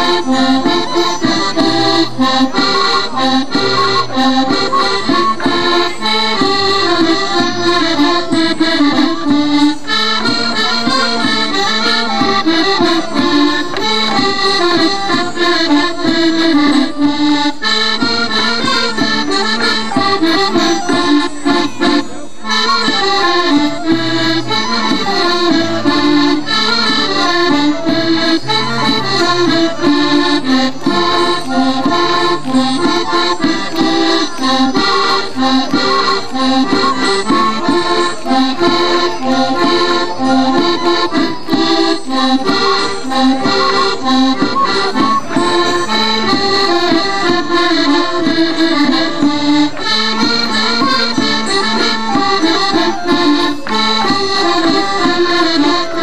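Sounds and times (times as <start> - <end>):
accordion-led folk dance band: 0.0 - 56.0.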